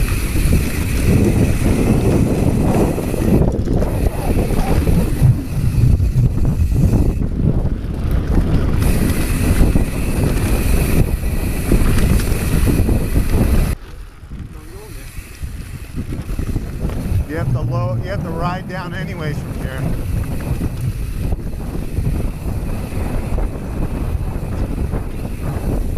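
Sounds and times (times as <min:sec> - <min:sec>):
tyres rumbling on loose dirt: 0:00.0 - 0:25.9
wind buffeting microphone: 0:00.0 - 0:25.9.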